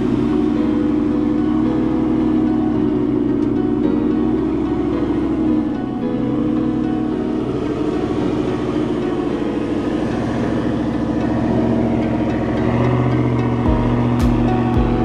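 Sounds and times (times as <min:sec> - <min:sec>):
truck engine pulling at low revs: 0:00.0 - 0:15.0.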